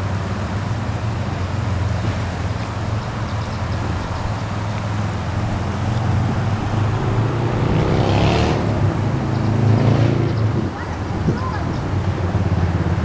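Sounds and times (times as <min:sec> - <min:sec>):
steady traffic rushing: 0:00.0 - 0:13.0
vehicle accelerating: 0:00.0 - 0:13.0
vehicle engine hum: 0:00.0 - 0:13.0.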